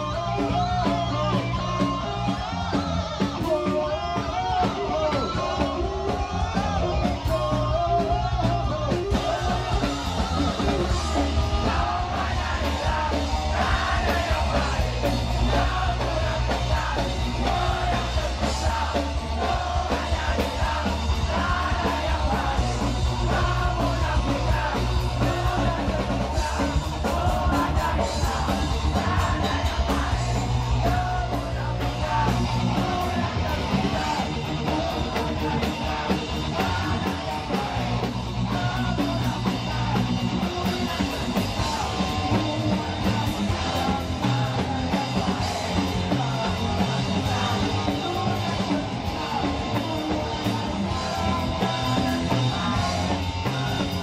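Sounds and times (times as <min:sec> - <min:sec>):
live punk band playing: 0:00.0 - 0:54.0
shouted vocals: 0:00.0 - 0:54.0.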